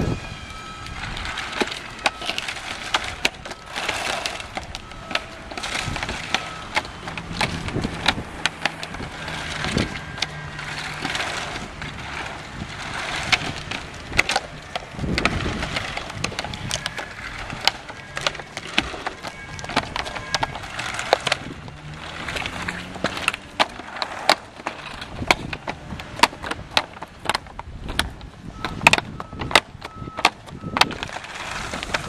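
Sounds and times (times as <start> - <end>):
plastic floor panels clacking: 0.8 - 32.0.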